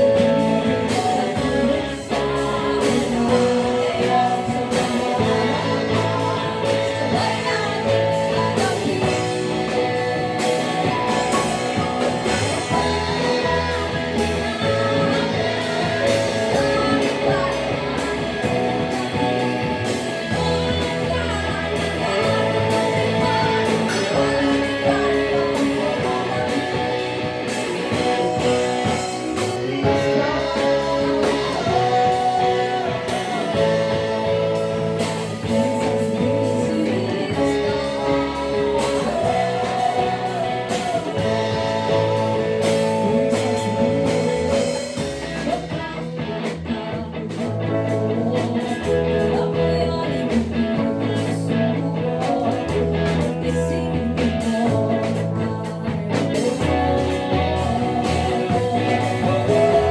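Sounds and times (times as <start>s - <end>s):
drum kit beat: 0.0s - 59.9s
live rock band playing: 0.0s - 59.9s
person singing: 0.0s - 59.9s.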